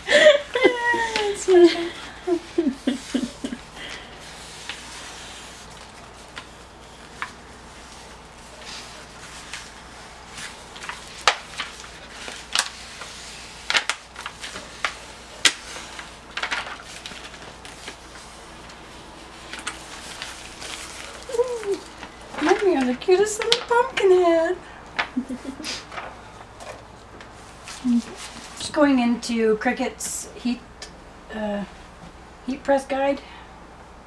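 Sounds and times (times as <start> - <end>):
plastic sheet peeling and rustling: 0.0 - 28.8.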